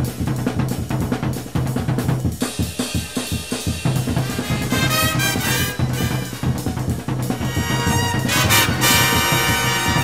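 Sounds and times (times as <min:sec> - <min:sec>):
bass drum and snare hits: 0:00.0 - 0:10.0.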